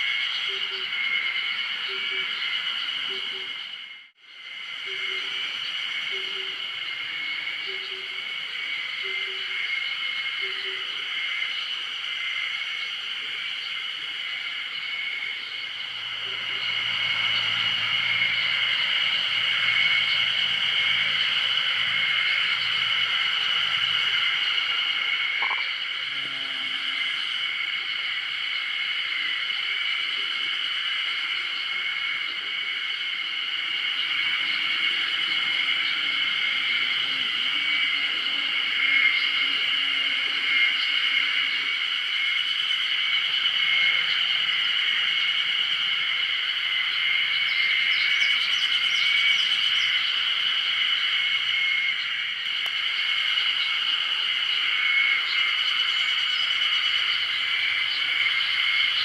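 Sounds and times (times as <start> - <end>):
chorus of calling animals: 0.0 - 3.8, 4.6 - 59.0.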